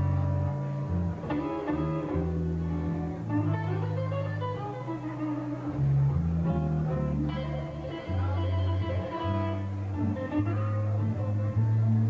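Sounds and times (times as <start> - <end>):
bass guitar notes: 0.0 - 12.0
electric guitar lead lines: 0.0 - 12.0.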